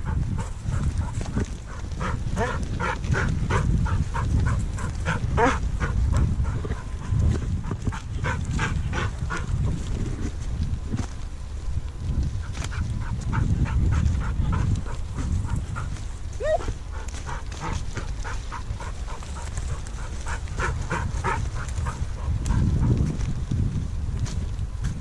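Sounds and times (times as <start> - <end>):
dog panting: 0.0 - 10.0, 12.6 - 23.1
footsteps on field: 0.0 - 25.0
wind rumble: 0.0 - 25.0.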